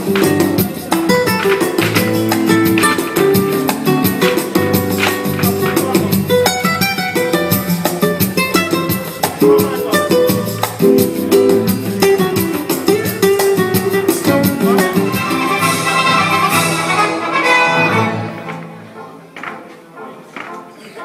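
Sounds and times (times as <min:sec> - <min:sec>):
strummed flamenco guitar: 0:00.0 - 0:18.7.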